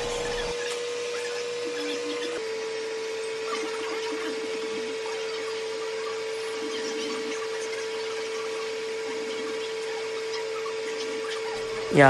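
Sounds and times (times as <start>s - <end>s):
hair dryer running: 0.0s - 6.4s, 7.0s - 12.0s.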